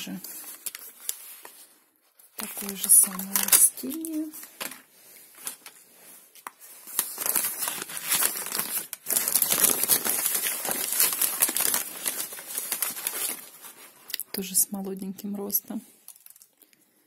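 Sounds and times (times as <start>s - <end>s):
wrapping paper rustling: 0.0s - 14.4s, 16.0s - 16.9s.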